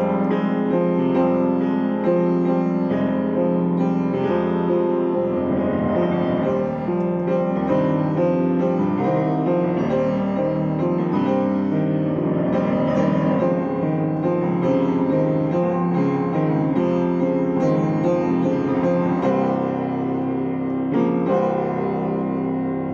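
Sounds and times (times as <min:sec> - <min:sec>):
piano playing: 0:00.0 - 0:22.9.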